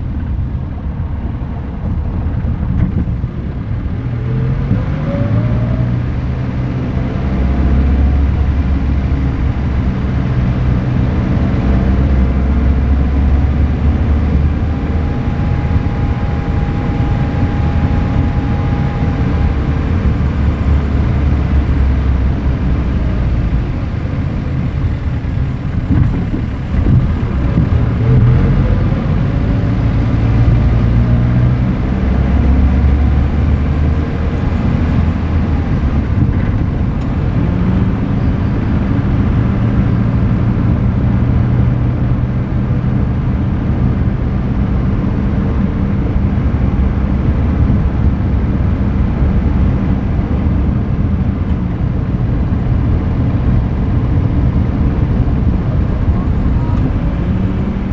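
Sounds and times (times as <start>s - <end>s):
vehicle driving along road: 0.0s - 57.9s.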